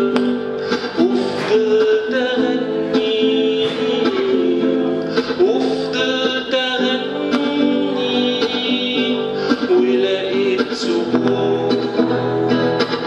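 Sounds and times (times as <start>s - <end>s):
acoustic guitar: 0.0s - 13.0s
man singing: 0.0s - 13.0s.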